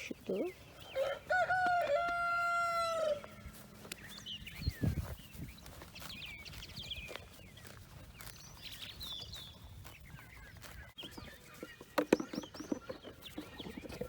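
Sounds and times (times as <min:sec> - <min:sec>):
birds chirping: 0:00.0 - 0:14.0
hooves knocking and scuffing: 0:00.1 - 0:14.0.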